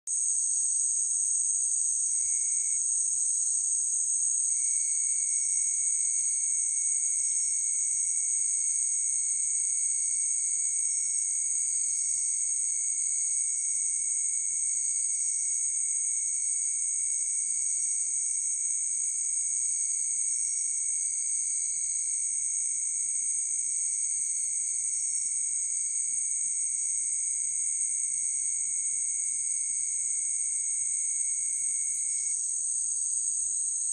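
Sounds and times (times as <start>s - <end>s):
crickets chirring: 0.1s - 16.4s, 18.4s - 33.9s.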